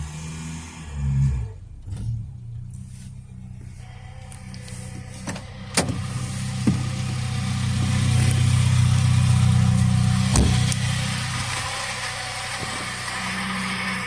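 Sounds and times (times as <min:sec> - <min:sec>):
car engine running: 0:00.0 - 0:14.0
gearbox drone: 0:00.0 - 0:14.0.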